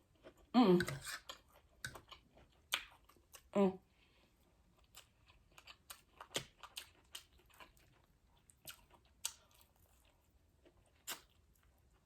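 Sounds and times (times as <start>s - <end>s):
person chewing crispy food: 0.0s - 3.6s, 4.4s - 12.0s.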